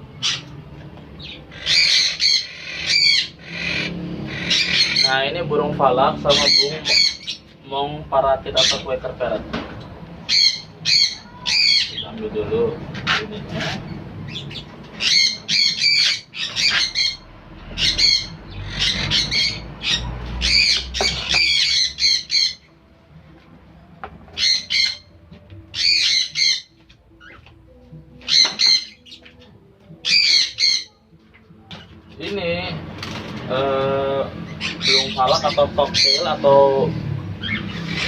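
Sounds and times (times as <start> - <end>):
parrots squawking: 0.0 - 7.6, 8.4 - 9.4, 10.1 - 22.8, 24.3 - 31.2, 33.0 - 38.0.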